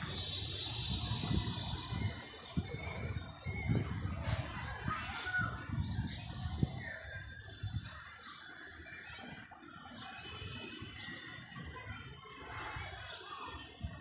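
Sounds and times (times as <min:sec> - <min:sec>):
birds chirping: 0:00.1 - 0:11.9.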